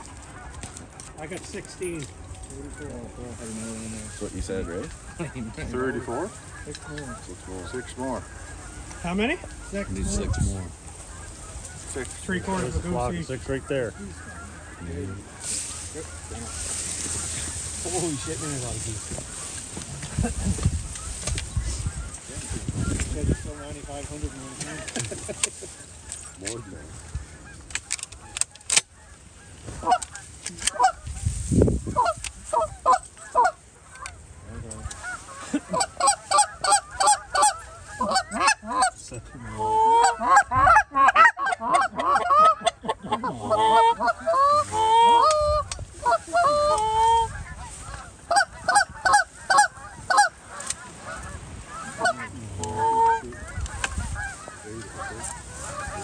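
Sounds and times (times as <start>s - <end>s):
geese honking: 0.0s - 56.0s.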